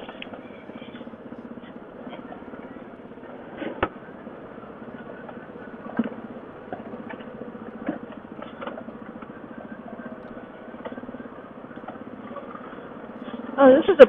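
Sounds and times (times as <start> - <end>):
quad engine running at low revs: 0.0 - 14.0.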